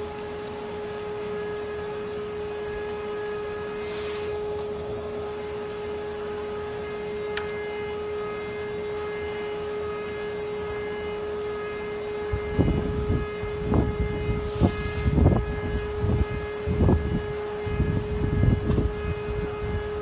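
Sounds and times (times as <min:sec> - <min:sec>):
engraving machine humming: 0:00.0 - 0:20.0.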